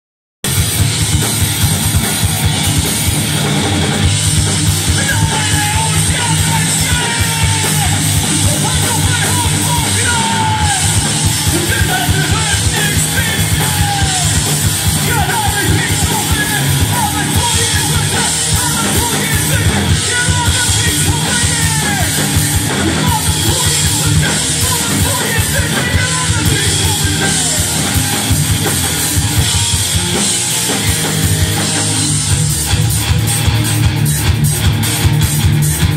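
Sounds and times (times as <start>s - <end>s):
drums: 0.4s - 35.9s
guitars: 0.4s - 35.9s
live rock band playing: 0.4s - 35.9s
yelled vocals: 0.5s - 35.9s.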